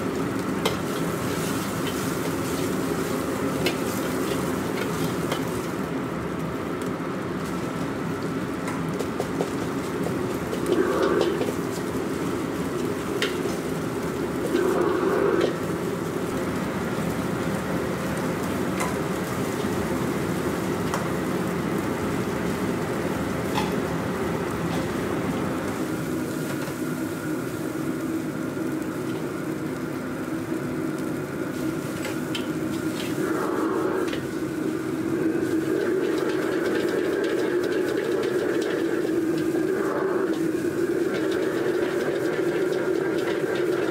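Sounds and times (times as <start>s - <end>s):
gas burner rushing: 0.0s - 29.9s, 30.8s - 43.9s
food sizzling in a wok: 0.0s - 43.9s.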